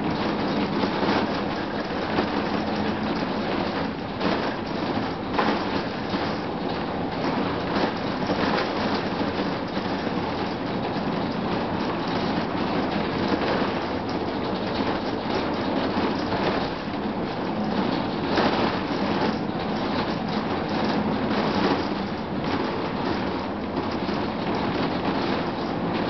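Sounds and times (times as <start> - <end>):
air conditioning running: 0.0 - 26.0.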